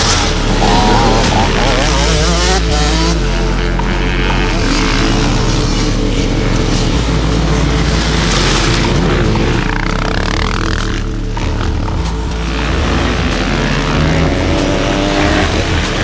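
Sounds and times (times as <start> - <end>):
background music with low notes: 0.0 - 16.0
motorcycle engines running: 0.0 - 16.0.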